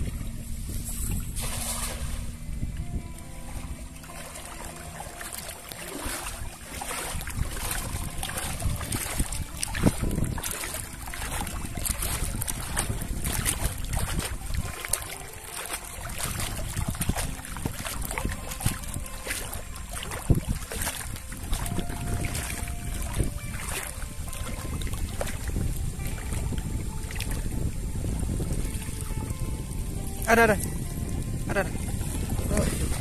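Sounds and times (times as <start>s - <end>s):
water sloshing and splashing: 0.0s - 33.0s
wind rumble on microphone: 0.0s - 33.0s.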